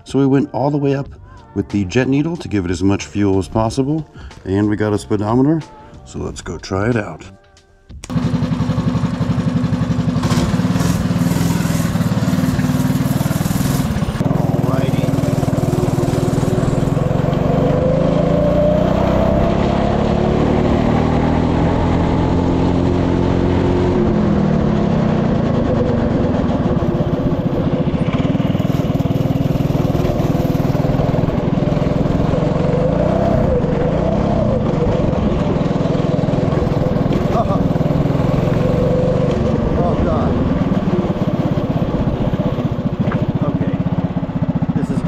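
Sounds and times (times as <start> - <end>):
go-kart engine revving: 8.0 - 45.0.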